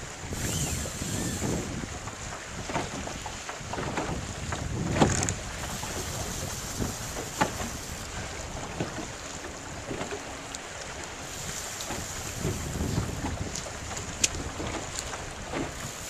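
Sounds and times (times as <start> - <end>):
water lapping against boat hull: 0.0 - 16.0
water slapping hull: 0.0 - 16.0
wind: 0.0 - 16.0.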